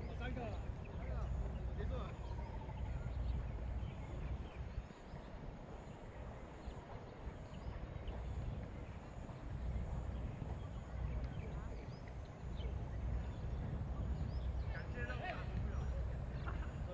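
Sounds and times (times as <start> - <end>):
low fluctuating rumble: 0.0 - 16.9.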